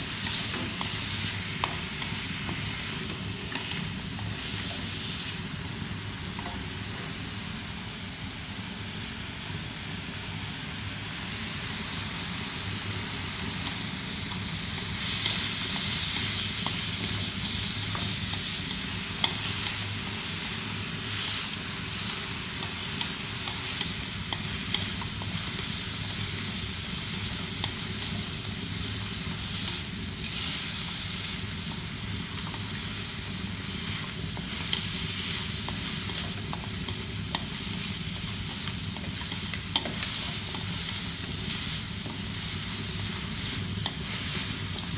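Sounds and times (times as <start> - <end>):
meat sizzling in wok: 0.0 - 44.9.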